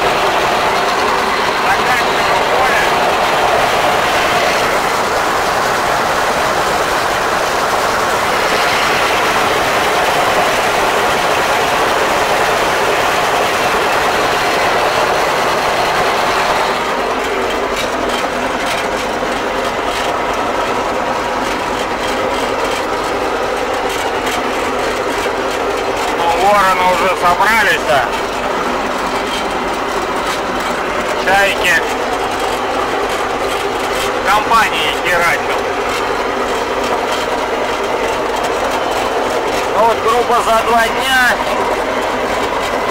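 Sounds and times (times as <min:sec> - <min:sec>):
mower engine drone: 0:00.0 - 0:42.9.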